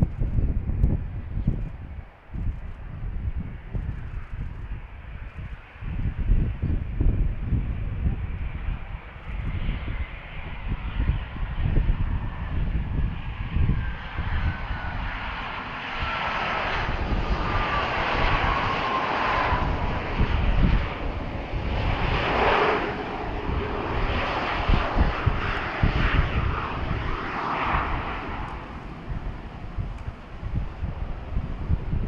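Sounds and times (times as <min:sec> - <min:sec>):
falling turbine whine: 0:00.0 - 0:32.0
jet engines roaring: 0:00.0 - 0:32.0
wind buffeting microphone: 0:00.0 - 0:32.0.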